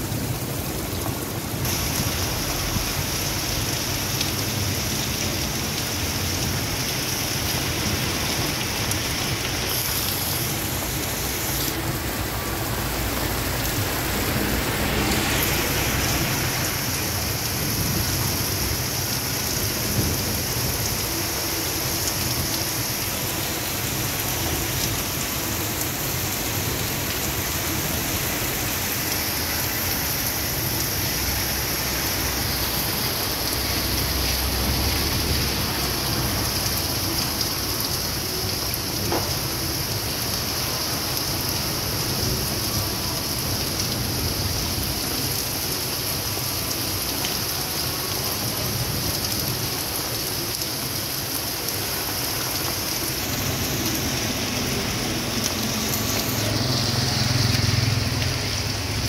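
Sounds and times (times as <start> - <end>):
rain falling on pavement: 0.0 - 59.0.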